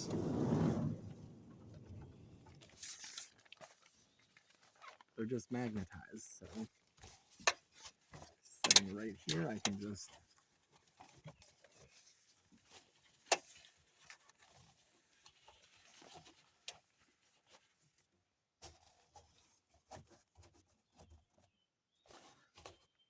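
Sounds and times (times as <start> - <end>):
faint fabric rustling: 0.0 - 23.0.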